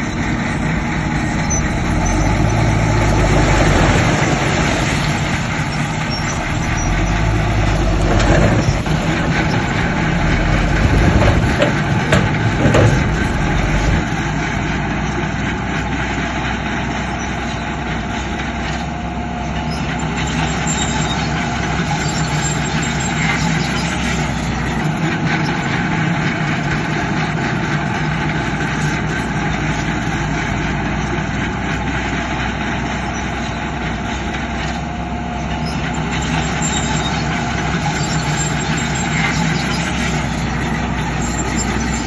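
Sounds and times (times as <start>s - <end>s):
heavy machinery diesel engines: 0.0s - 42.0s.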